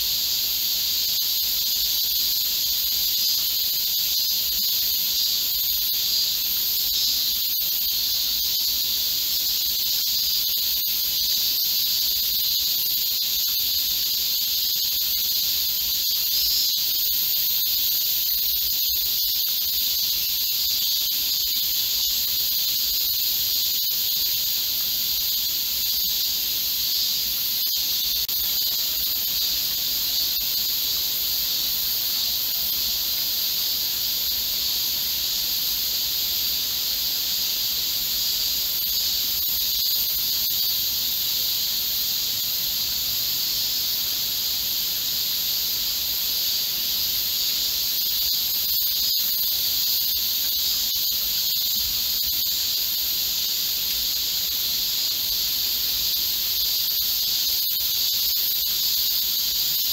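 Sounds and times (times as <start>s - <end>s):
cicadas chorus: 0.0s - 59.9s.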